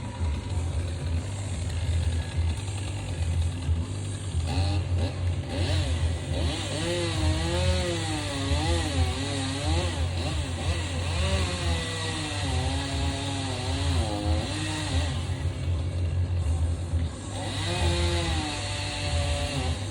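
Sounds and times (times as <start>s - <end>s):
chainsaw running: 0.0s - 19.9s.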